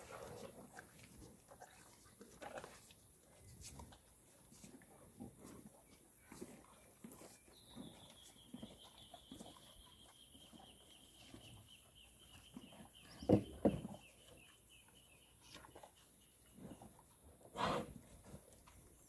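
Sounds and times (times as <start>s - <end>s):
cattle chewing and knocking: 0.0s - 19.0s.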